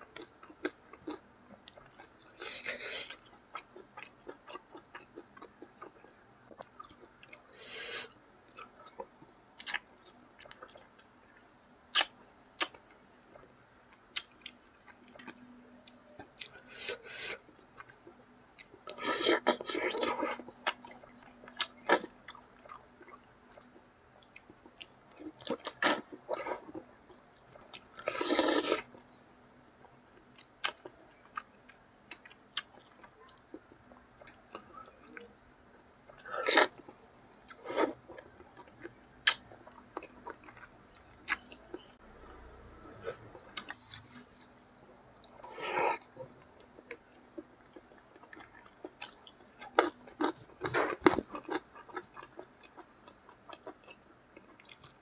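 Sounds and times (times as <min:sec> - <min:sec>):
close chewing and mouth clicks: 0:08.5 - 0:28.9, 0:29.8 - 0:35.5, 0:36.1 - 0:55.0.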